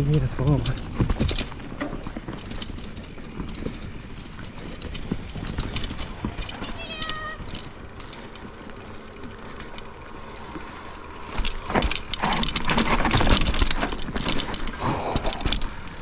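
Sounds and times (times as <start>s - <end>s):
bike clattering over roots: 0.0s - 16.0s
bike tyres rolling on a trail: 0.0s - 16.0s.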